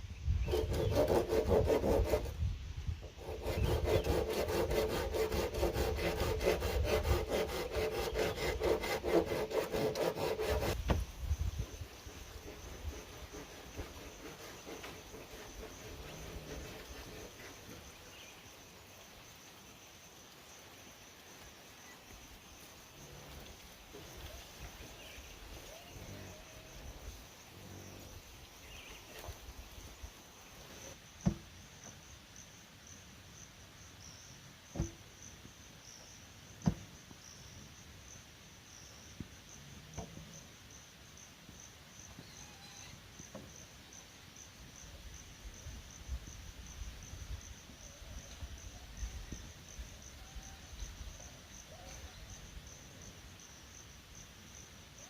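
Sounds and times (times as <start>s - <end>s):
insects trilling: 0.1s - 55.0s.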